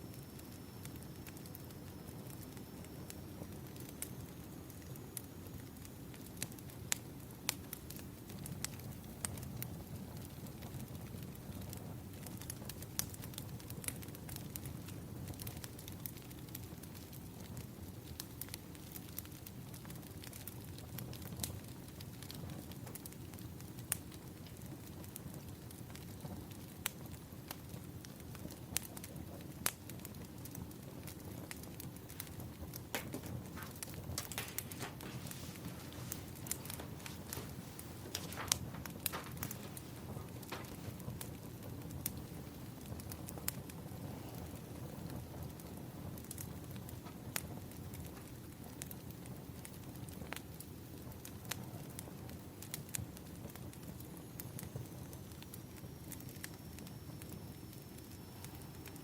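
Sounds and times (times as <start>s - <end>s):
fire pops and snaps: 0.1s - 59.0s
burning logs rumbling: 0.9s - 59.0s.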